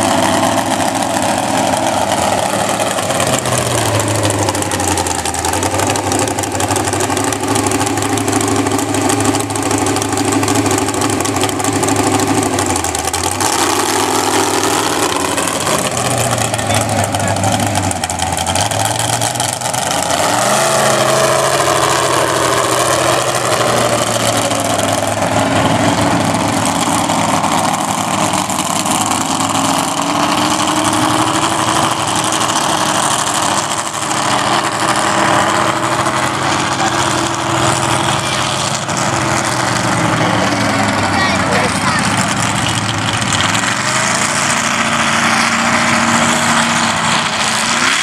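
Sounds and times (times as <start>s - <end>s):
truck engine running hard: 0.0s - 48.0s.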